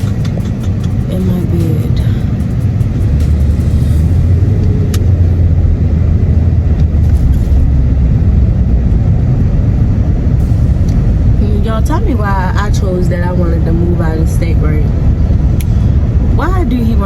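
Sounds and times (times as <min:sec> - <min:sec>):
car driving heard from cabin: 0:00.0 - 0:17.0.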